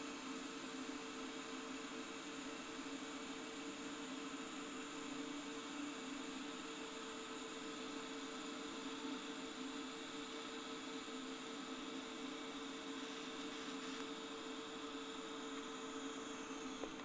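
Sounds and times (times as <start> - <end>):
welder electrical hum: 0.0 - 17.0.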